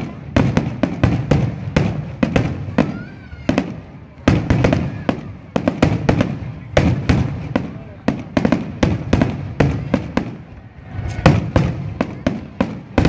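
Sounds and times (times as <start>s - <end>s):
fireworks banging: 0.0s - 13.0s.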